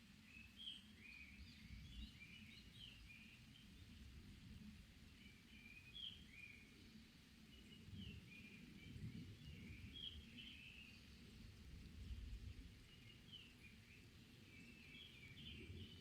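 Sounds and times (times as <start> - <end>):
faint forest birdsong: 0.0 - 16.0.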